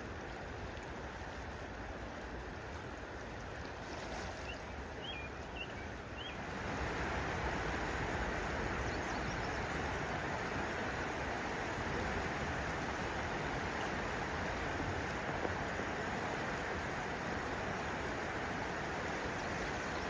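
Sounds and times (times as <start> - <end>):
steady rushing outdoor noise: 0.0 - 20.0.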